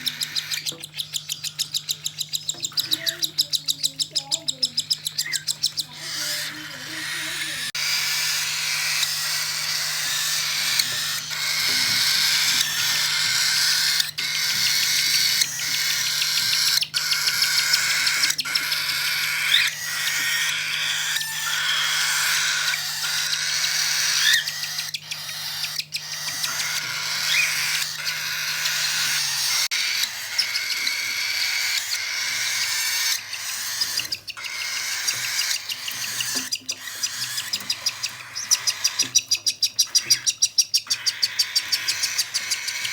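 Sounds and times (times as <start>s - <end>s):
chicks buzzy begging calls: 0.0s - 42.9s.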